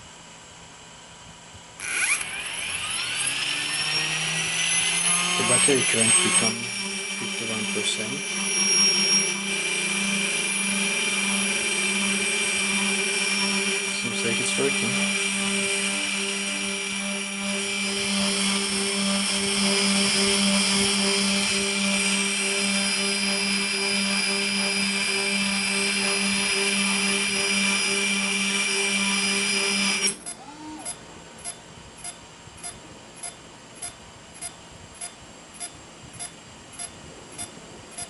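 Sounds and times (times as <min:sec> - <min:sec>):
quadcopter motors whining: 0:01.7 - 0:38.0.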